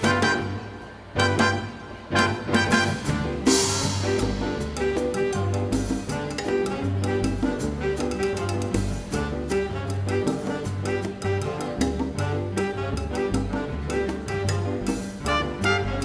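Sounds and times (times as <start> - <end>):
latin dance band playing: 0.0 - 16.0.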